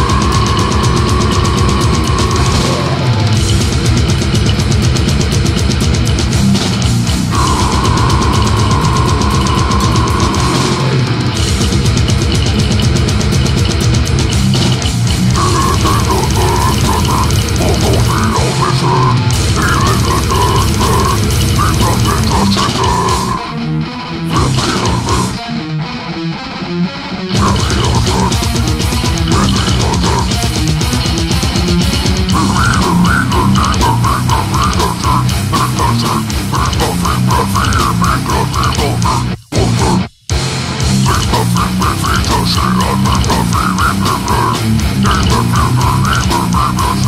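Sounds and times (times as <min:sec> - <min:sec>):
fast dense drumming: 0:00.0 - 0:23.5, 0:24.3 - 0:25.4, 0:27.4 - 0:47.0
distorted guitars: 0:00.0 - 0:47.0
high wavering guitar line: 0:00.0 - 0:47.0.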